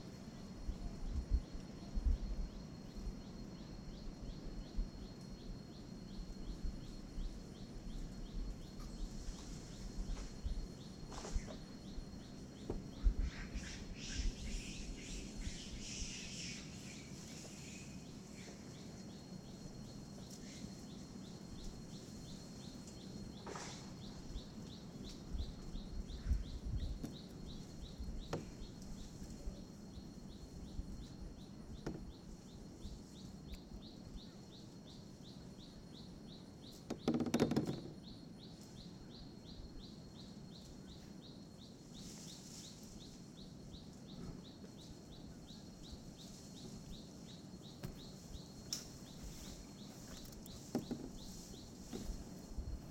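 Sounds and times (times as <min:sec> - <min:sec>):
birds chirping: 0:02.9 - 0:52.6.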